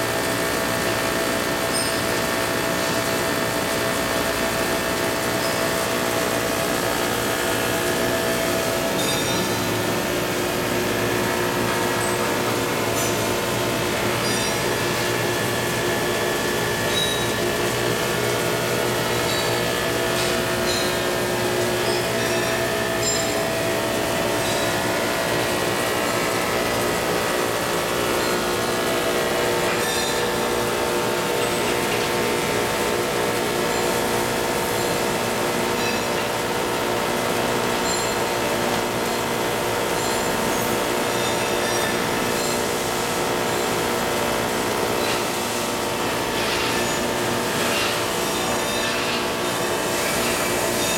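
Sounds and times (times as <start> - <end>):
machine motors and rollers running: 0.0 - 50.9.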